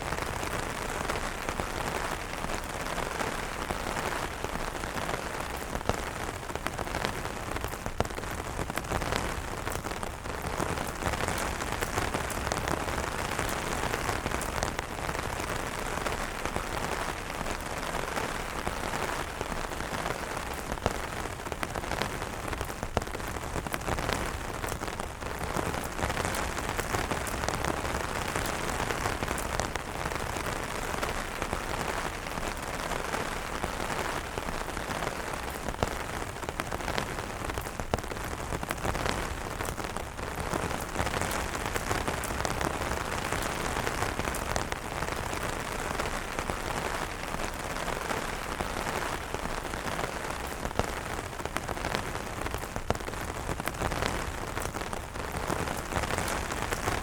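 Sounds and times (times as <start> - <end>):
rain drumming on umbrella: 0.0 - 57.0.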